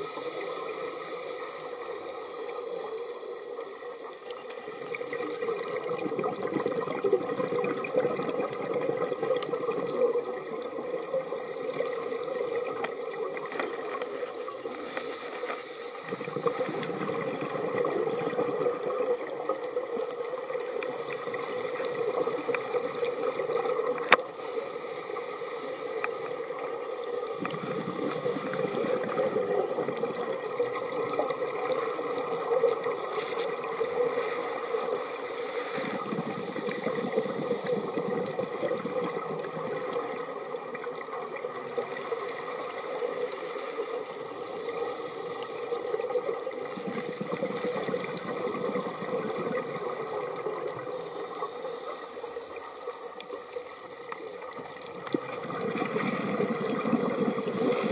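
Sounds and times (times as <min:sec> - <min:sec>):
underwater watery rushing: 0:00.0 - 0:57.9.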